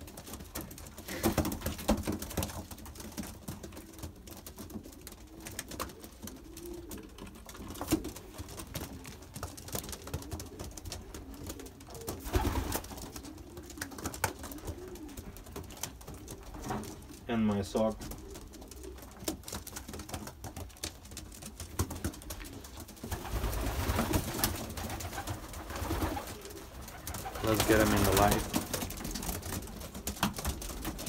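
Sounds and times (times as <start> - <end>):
pigeons pecking at a shoe: 0.0 - 31.0
pigeon cooing: 0.8 - 1.8, 3.6 - 20.2, 22.2 - 31.0.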